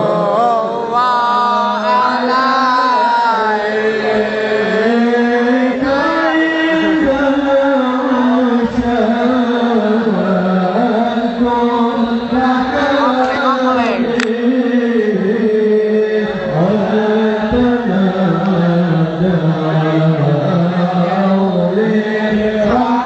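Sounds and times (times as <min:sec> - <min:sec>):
melismatic chanting voice: 0:00.0 - 0:23.0.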